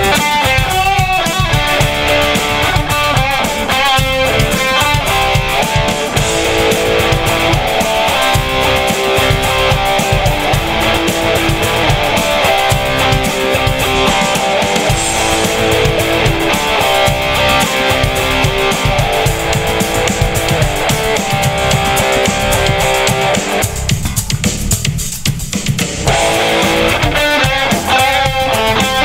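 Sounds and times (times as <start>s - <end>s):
electric guitar melody: 0.0s - 24.2s, 26.0s - 29.0s
drum kit beat: 0.0s - 29.0s.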